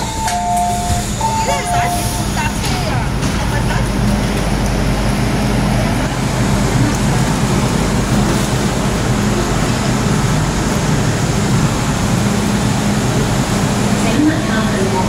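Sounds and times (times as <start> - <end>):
station ventilation noise: 0.0 - 15.0
train air-conditioning hum: 0.0 - 15.0.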